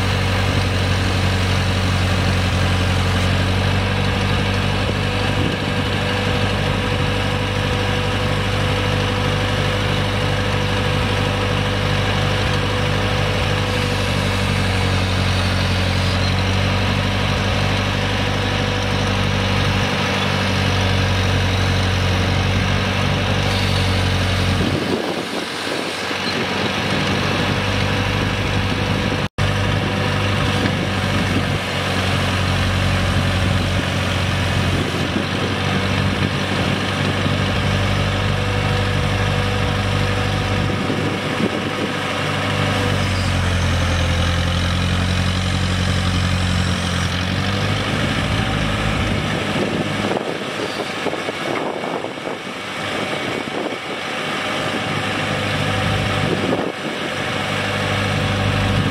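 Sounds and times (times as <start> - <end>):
tractor engine idling: 0.0 - 58.9.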